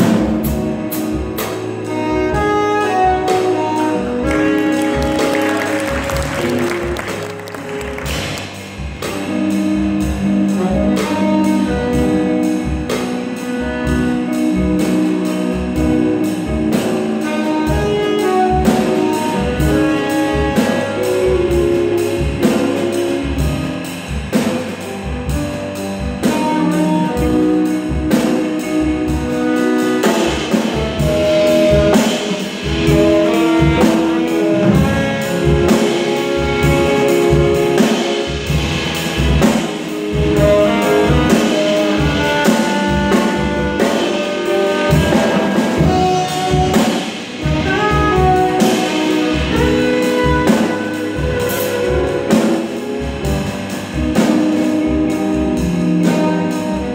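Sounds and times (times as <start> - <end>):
drum kit hits: 0.0 - 56.9
grand piano: 0.0 - 56.9
saxophone: 0.0 - 56.9.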